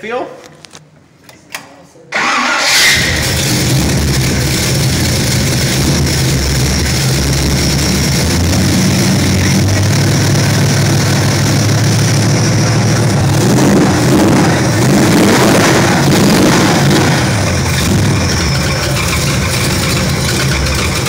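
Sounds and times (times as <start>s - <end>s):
car engine running: 2.7s - 21.0s.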